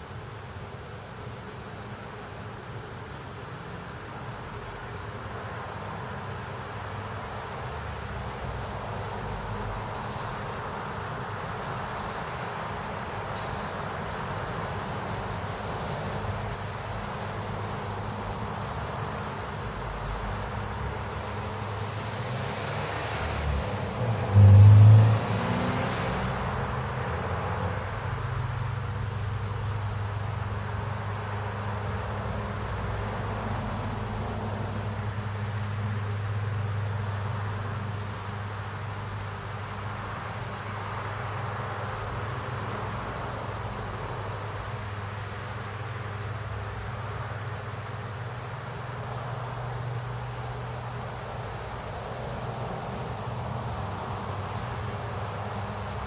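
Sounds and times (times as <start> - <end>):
background hiss: 0.0 - 56.0
low engine hum: 4.1 - 56.0
car passing with low rumble: 4.5 - 56.0.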